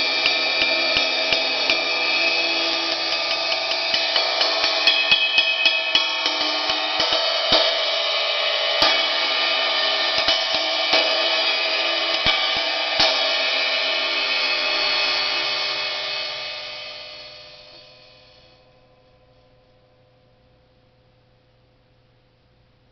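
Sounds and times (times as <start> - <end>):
sizzle cymbal struck with drumstick: 0.0 - 19.4.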